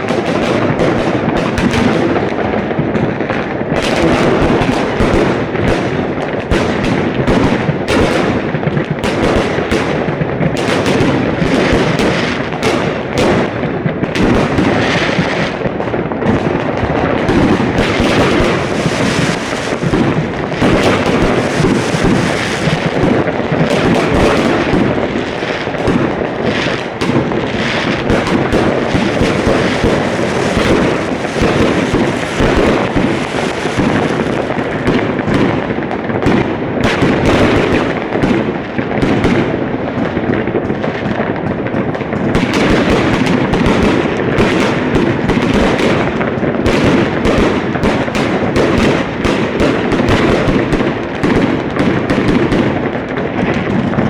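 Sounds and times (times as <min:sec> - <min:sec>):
fireworks banging: 0:00.0 - 0:54.0.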